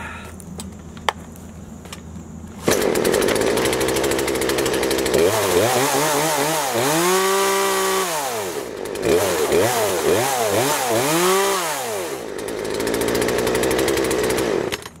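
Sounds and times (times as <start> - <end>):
chainsaw engine revving: 2.6 - 15.0.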